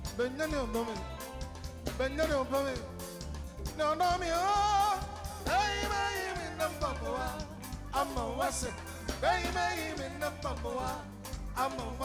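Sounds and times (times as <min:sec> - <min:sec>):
bass line: 0:00.0 - 0:12.0
drum kit: 0:00.0 - 0:12.0.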